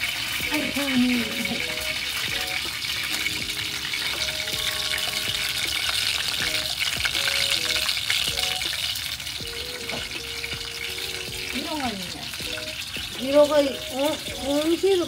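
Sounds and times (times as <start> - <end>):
vegetables deep-frying in oil: 0.0 - 15.0.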